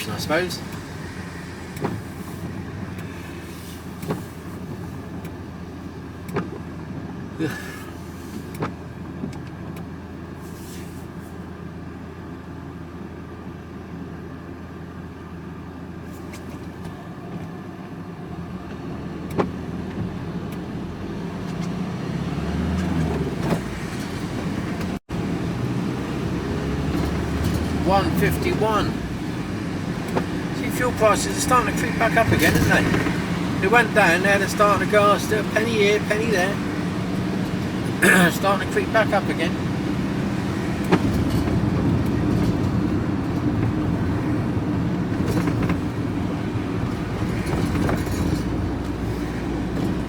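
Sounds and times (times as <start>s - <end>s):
engine and road noise in cab: 0.0s - 50.0s.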